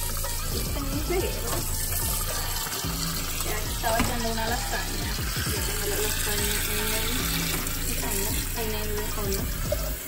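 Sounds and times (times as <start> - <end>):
background music with melody: 0.0 - 10.0
tap water running into glass jar: 0.0 - 10.0.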